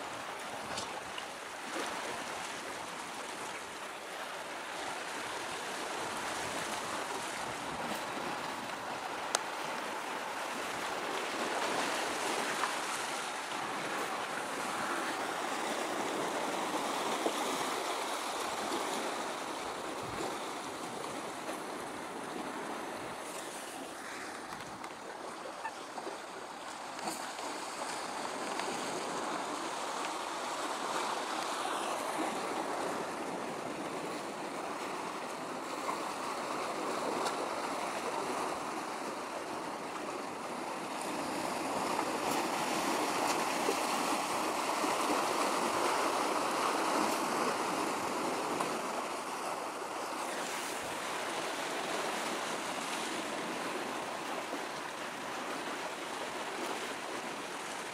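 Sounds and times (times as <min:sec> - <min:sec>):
small waves washing: 0:00.0 - 0:57.9.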